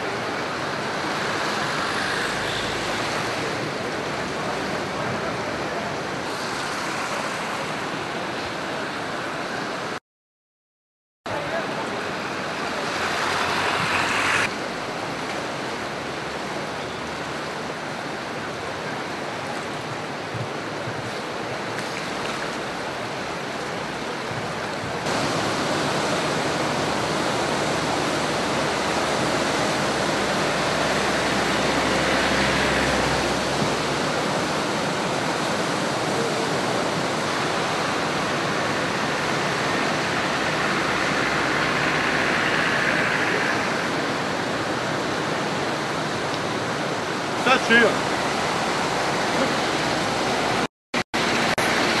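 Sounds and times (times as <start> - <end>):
floodwater rushing: 0.0 - 10.0, 11.3 - 52.0.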